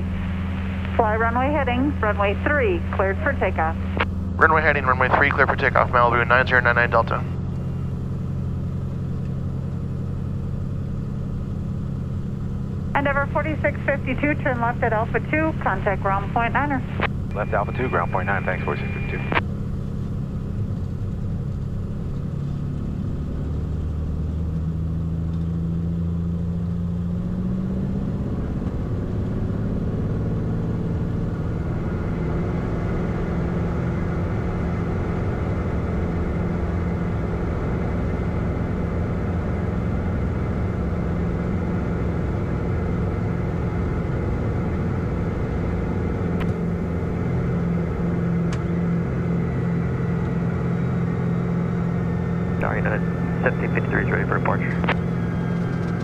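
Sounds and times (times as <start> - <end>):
aircraft engine at takeoff power: 0.0 - 56.0.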